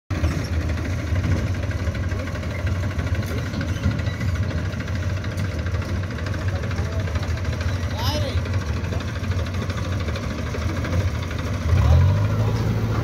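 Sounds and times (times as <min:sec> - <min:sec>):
diesel tractor engine running: 0:00.1 - 0:13.0.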